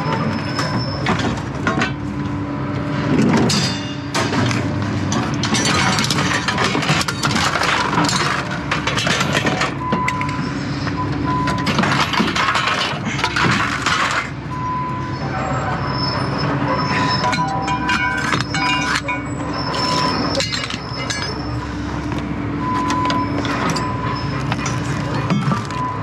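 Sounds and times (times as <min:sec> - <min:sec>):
scrap metal clanking and rattling: 0:00.0 - 0:02.1, 0:03.0 - 0:10.5, 0:11.4 - 0:14.4, 0:16.8 - 0:21.8, 0:22.6 - 0:26.0
engine hum: 0:00.0 - 0:26.0.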